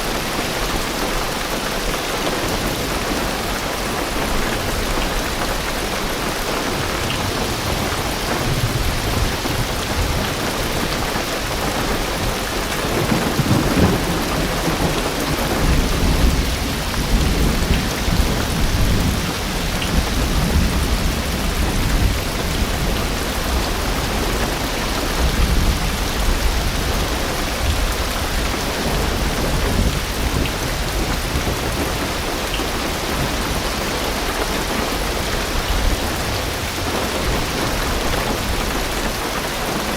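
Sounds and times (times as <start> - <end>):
rain on car roof: 0.0 - 39.9
low thunder rumble: 4.1 - 39.2.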